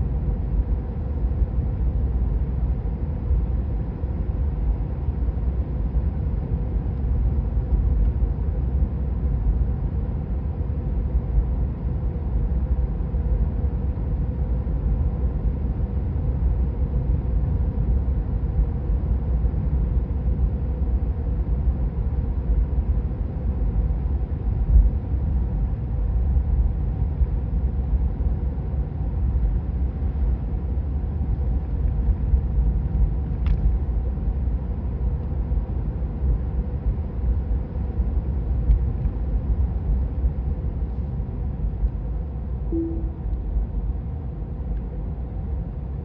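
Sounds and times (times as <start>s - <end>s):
road and tyre rumble in car: 0.0s - 42.7s, 43.5s - 46.0s
faint steady hum: 0.0s - 46.0s.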